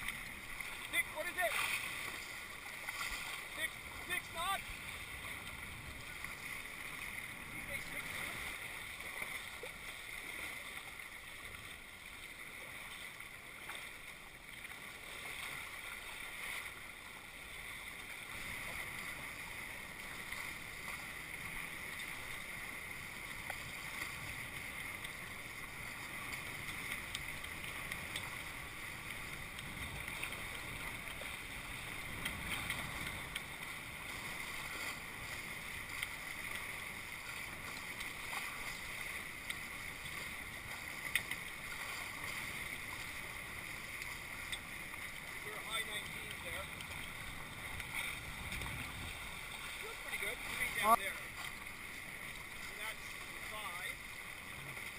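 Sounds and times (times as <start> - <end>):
water rushing past hull: 0.0 - 54.9
wind: 0.0 - 54.9.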